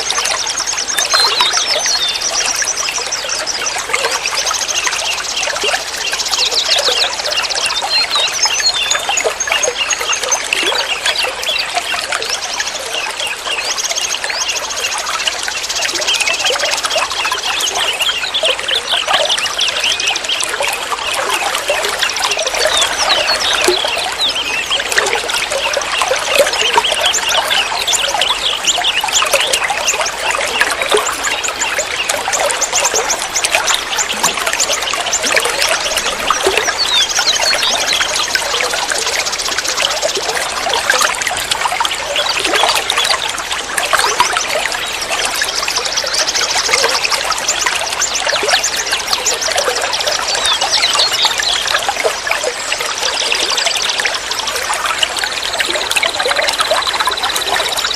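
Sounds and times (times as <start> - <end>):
water trickling and gurgling: 0.0 - 57.9.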